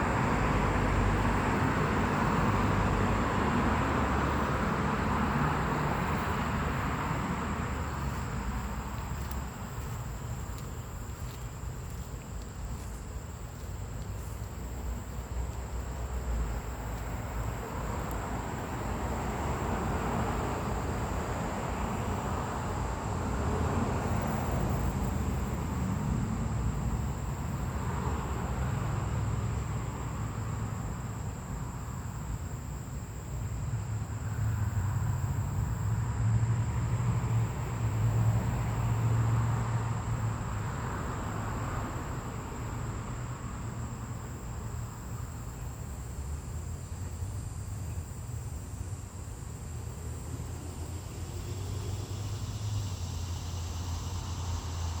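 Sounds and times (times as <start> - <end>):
high insect tone: 0.0 - 55.0.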